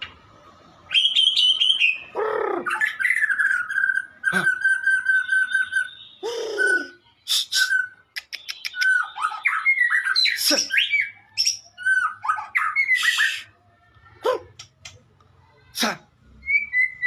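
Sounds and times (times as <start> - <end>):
songbird singing: 0.9 - 15.4, 16.4 - 17.0.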